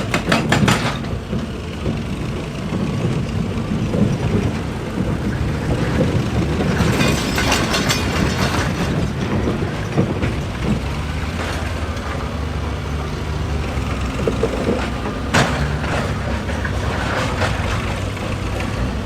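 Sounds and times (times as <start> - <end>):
heavy machine engine running: 0.0 - 19.0
knocks and rattles: 0.0 - 19.0.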